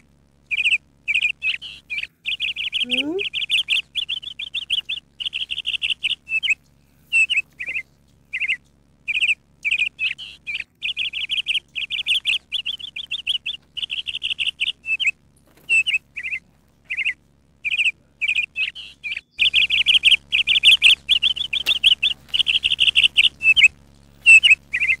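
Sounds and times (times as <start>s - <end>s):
nestlings chirping: 0.0s - 25.0s.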